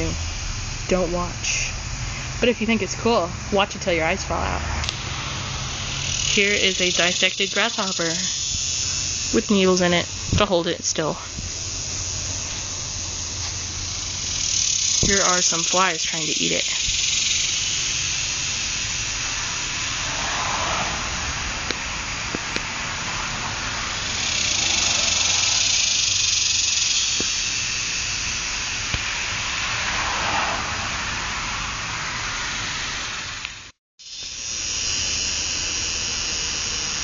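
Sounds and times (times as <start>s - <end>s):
cicadas buzzing: 0.0s - 37.0s.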